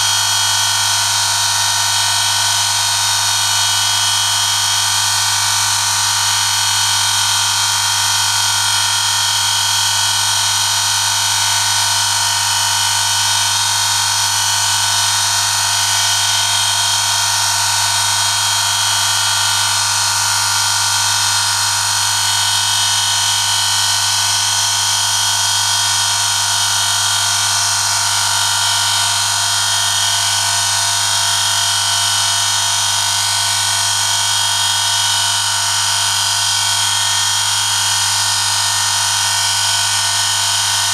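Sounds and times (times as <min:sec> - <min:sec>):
electric motor hum and whine: 0:00.0 - 0:40.9.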